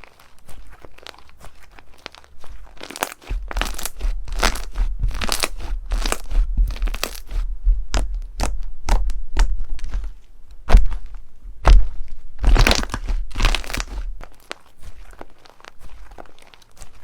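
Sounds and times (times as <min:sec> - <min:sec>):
slime crackling when squeezed: 0:00.0 - 0:10.0, 0:12.4 - 0:17.0.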